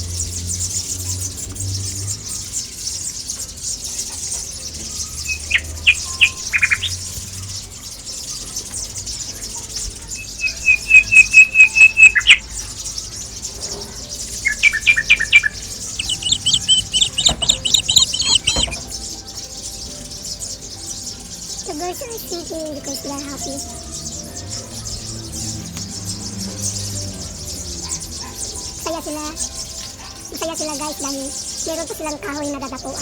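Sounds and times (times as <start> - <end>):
high-pitched chirping chorus: 0.0 - 33.0
songbirds repeated notes: 0.0 - 33.0.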